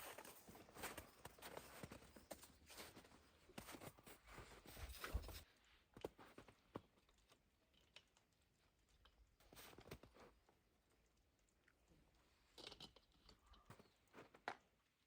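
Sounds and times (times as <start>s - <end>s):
faint rustling and crackling: 0.0s - 15.0s.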